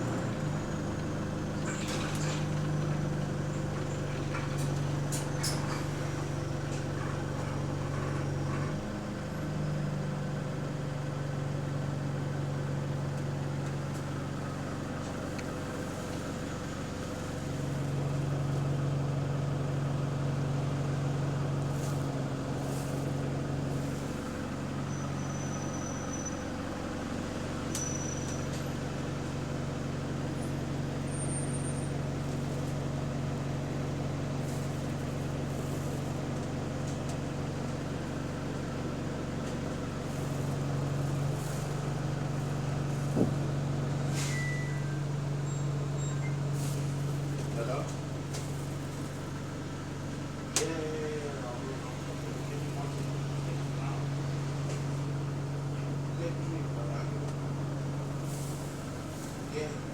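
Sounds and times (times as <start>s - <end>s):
air conditioning noise: 0.0s - 59.9s
bus engine humming: 0.0s - 59.9s.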